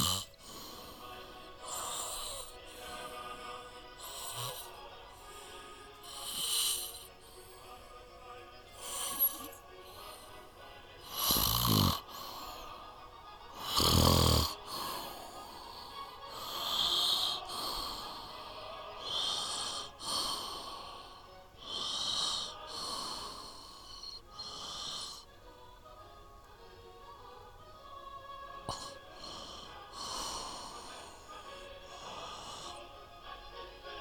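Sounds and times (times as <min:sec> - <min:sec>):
person snoring: 0:00.0 - 0:07.8, 0:08.7 - 0:12.8, 0:13.5 - 0:25.3, 0:28.6 - 0:32.9.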